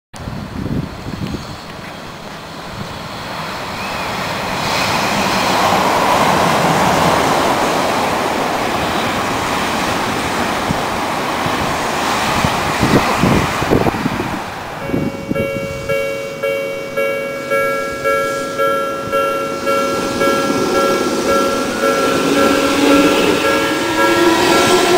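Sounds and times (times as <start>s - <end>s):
train wheels rumbling on rails: 0.2s - 24.9s.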